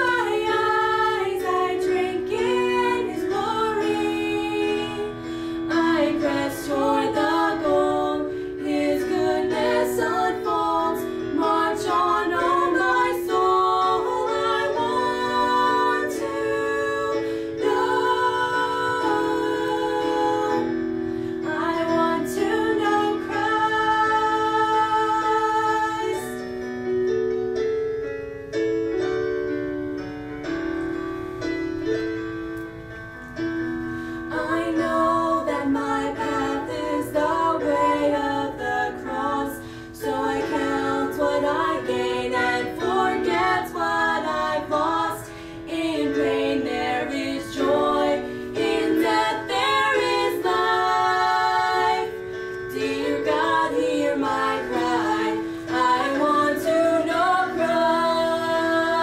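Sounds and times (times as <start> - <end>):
women singing in harmony: 0.0 - 26.4, 34.2 - 59.0
piano accompaniment: 0.0 - 59.0.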